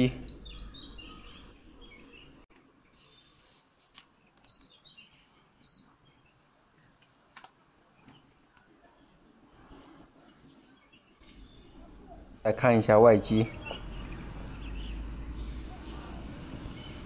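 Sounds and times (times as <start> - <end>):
birds chirping: 0.0 - 3.6, 4.2 - 7.0, 7.8 - 17.0.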